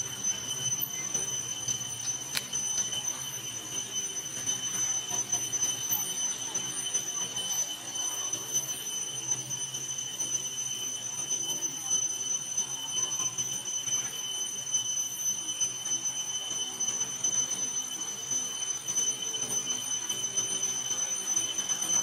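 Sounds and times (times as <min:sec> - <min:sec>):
cicadas droning: 0:00.0 - 0:22.0.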